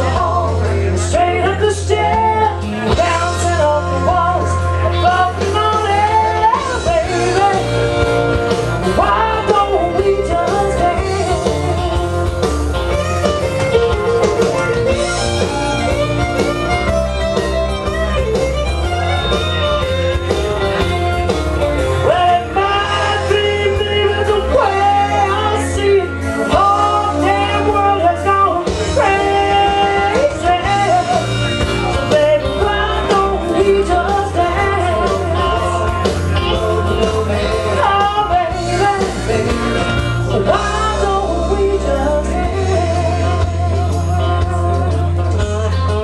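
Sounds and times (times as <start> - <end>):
singer with band: 0.0 - 46.0
steady bass line: 0.0 - 46.0.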